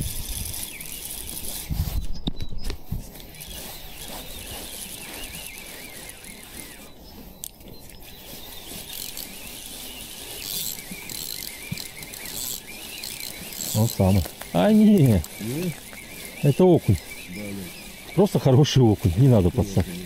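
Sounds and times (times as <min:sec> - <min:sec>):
fishing reel winding: 0:00.0 - 0:01.8, 0:03.2 - 0:06.9, 0:07.8 - 0:20.0.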